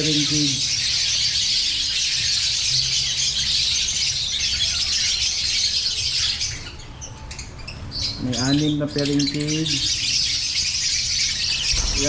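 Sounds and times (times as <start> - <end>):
massed lovebirds screeching: 0.0 - 12.0.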